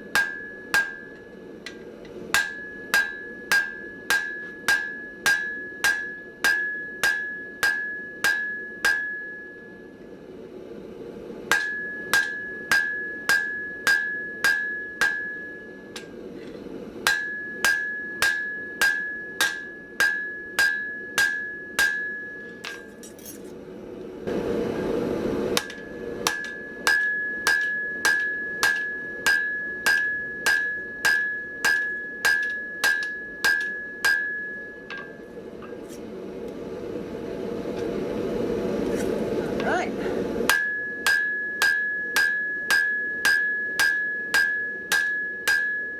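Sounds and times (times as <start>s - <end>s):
hammer striking steel on anvil: 0.0s - 10.0s, 11.5s - 23.6s, 25.5s - 36.0s, 40.5s - 45.9s.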